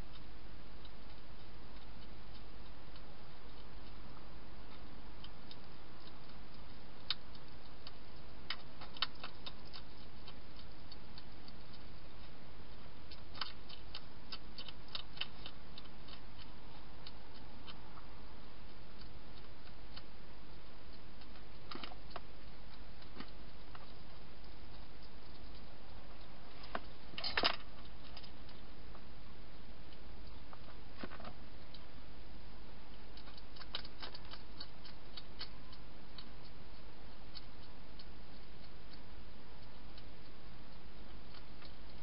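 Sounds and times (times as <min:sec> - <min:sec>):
hedgehog crunching dry food: 0:00.0 - 0:32.0, 0:32.6 - 0:42.0.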